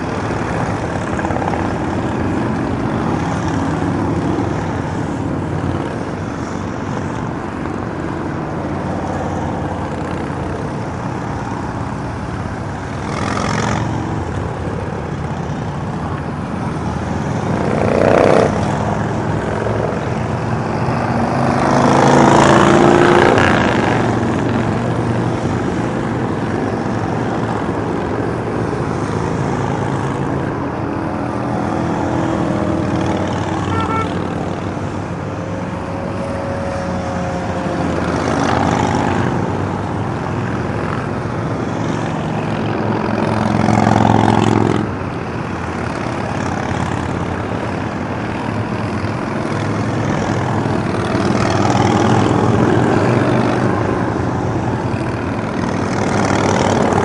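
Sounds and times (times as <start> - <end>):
motorcycles passing: 0.0 - 57.0
traffic hum: 0.0 - 57.0.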